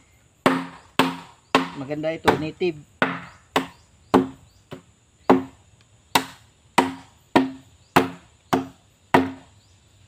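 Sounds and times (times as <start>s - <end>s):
tool knocking on bamboo: 0.4s - 9.5s.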